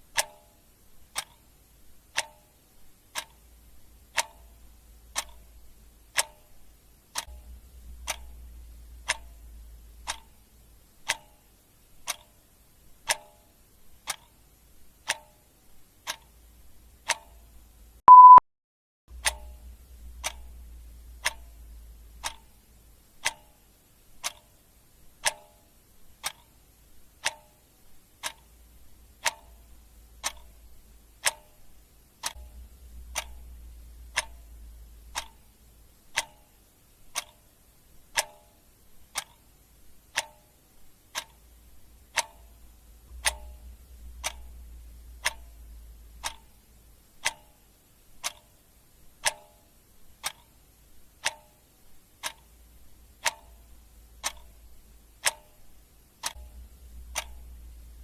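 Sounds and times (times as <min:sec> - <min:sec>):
clock ticking: 0:00.0 - 0:18.4, 0:19.1 - 0:58.0
faint low hum: 0:00.0 - 0:18.4, 0:19.1 - 0:58.0.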